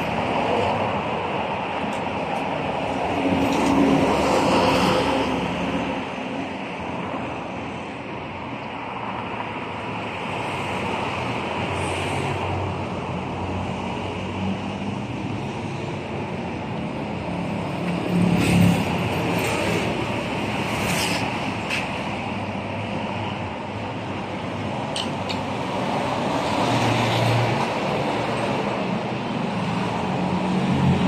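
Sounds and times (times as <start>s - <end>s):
cars and motorcycles passing: 0.0s - 31.0s.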